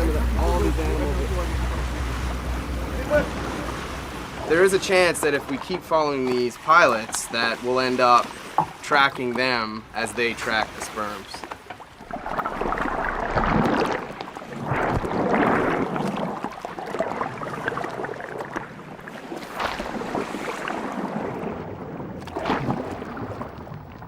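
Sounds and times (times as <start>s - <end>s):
water splashing against boat hull: 0.0s - 24.0s.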